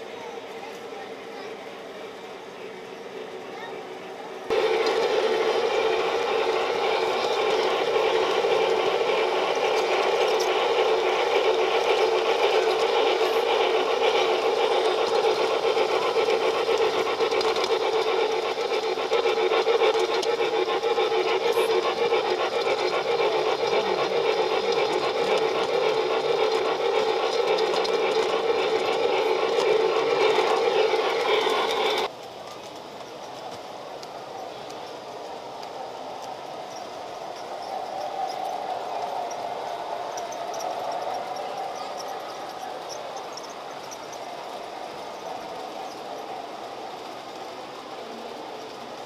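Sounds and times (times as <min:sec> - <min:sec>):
model train motor whirring: 0:04.4 - 0:49.0.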